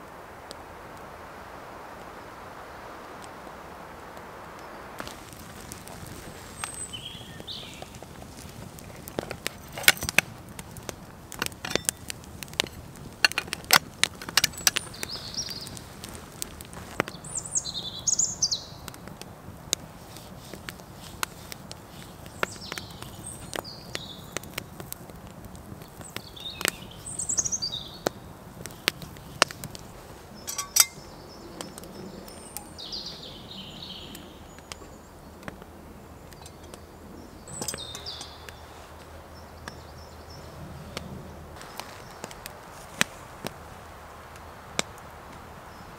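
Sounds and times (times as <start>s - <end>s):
wood fire crackling and popping: 0.0s - 45.9s
birds calling: 4.5s - 19.2s, 20.2s - 43.0s.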